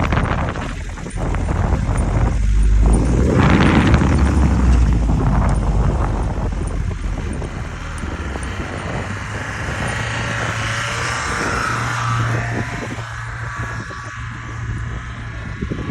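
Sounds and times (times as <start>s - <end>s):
engine droning: 0.0s - 15.9s.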